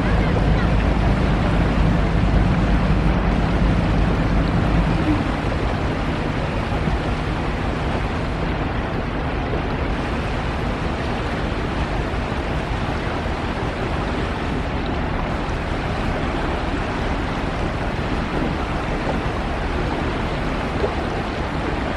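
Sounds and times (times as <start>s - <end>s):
low rumble: 0.0s - 21.9s
water rushing: 0.0s - 21.9s
wind on microphone: 0.0s - 21.9s.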